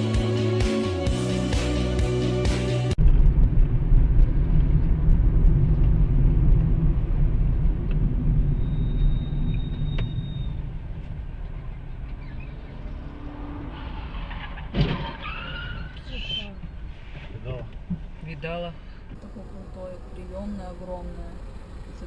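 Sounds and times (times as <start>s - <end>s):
car road and engine rumble: 2.9s - 22.0s.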